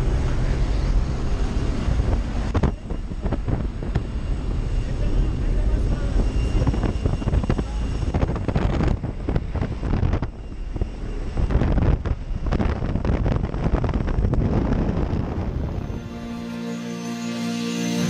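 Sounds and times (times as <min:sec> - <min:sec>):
wind buffeting microphone: 0:00.0 - 0:16.2
small plane engine: 0:00.0 - 0:18.0.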